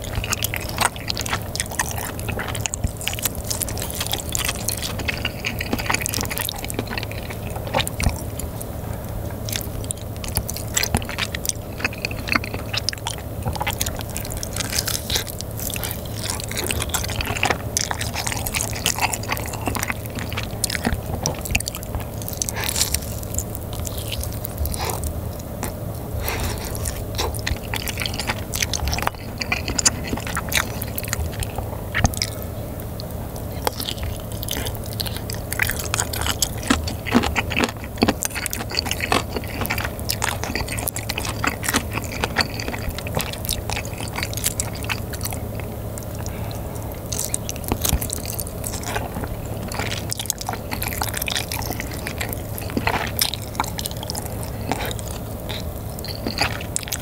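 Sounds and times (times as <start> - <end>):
wet chewing and mouth smacks: 0.0 - 57.0.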